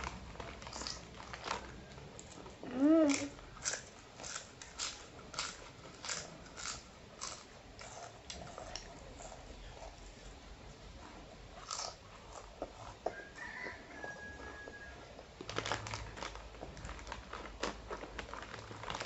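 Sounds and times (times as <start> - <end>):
potato chips crunching in mouth: 0.0 - 9.9, 11.5 - 19.0.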